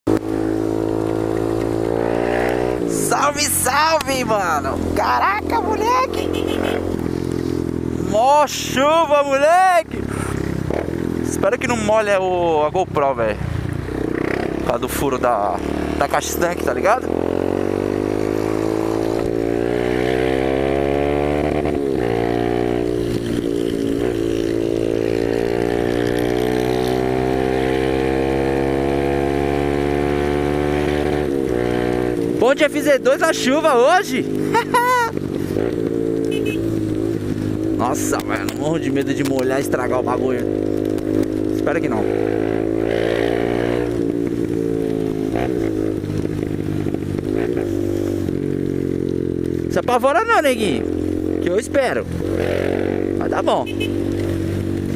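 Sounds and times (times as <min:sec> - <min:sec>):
motorcycle engine running: 0:00.0 - 0:54.9
road and wind noise: 0:00.0 - 0:54.9.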